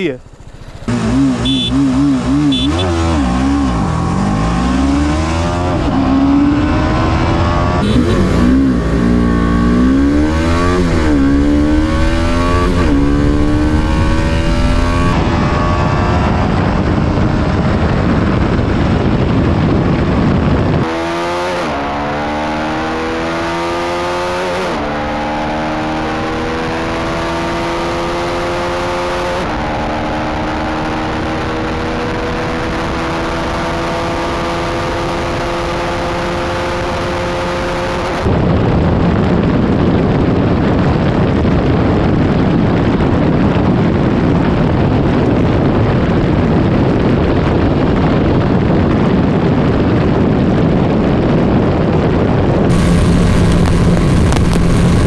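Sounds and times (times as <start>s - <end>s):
motorcycle engine revving: 0.0s - 55.0s
wind noise: 0.0s - 55.0s.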